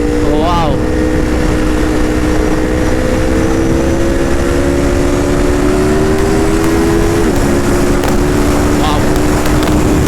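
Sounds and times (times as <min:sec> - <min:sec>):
wind noise: 0:00.0 - 0:10.0
motorcycle engine pulling: 0:01.1 - 0:10.0.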